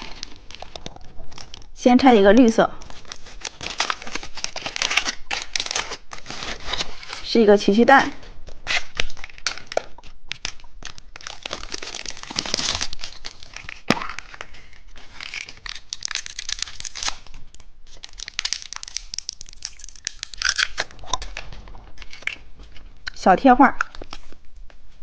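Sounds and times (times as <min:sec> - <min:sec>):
plastic wrapper crinkling: 0:00.0 - 0:24.6.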